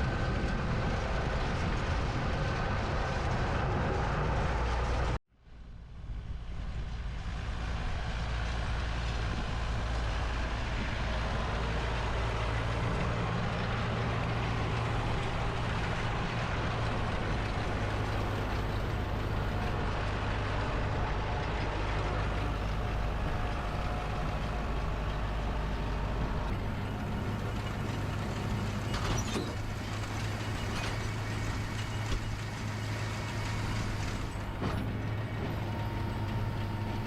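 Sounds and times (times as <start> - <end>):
tractor engine running: 6.8 - 37.0.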